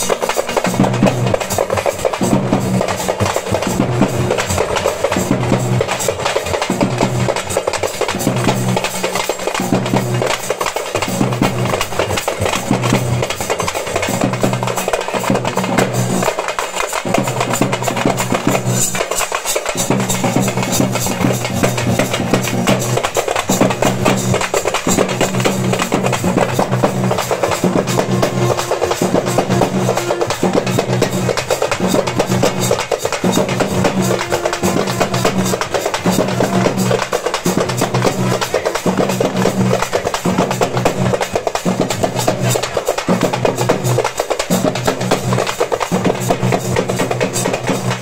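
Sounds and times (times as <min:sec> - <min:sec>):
frame drums beaten with sticks: 0:00.0 - 0:48.0.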